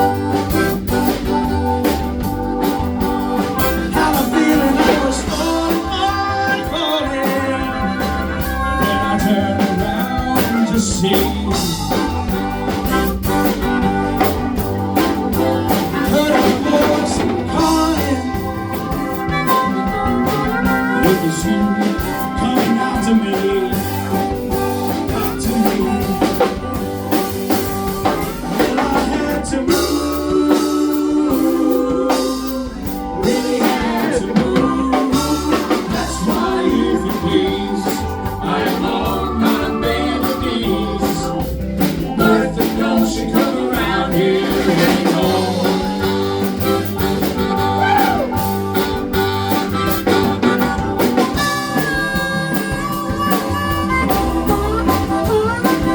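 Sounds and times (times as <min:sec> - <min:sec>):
live blues band: 0:00.0 - 0:55.9
person singing: 0:02.7 - 0:49.0.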